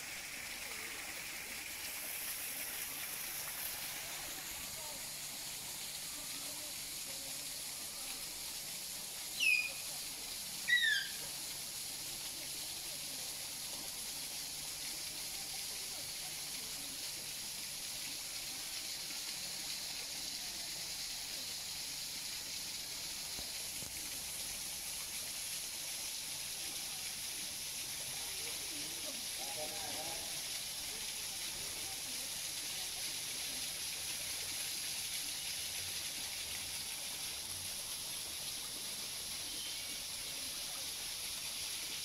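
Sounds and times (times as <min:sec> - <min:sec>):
waterfall rushing into pool: 0:00.0 - 0:42.0.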